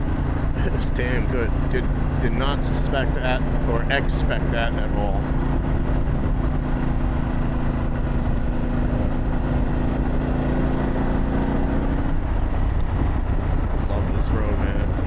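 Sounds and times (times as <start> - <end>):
heavy wind rumble: 0.0 - 15.0
motorcycle engine running: 0.0 - 15.0.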